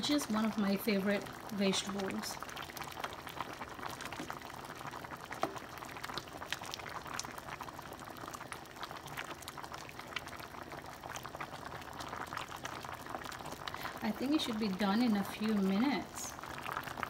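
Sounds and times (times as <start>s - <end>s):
soup boiling and bubbling: 0.0s - 17.0s.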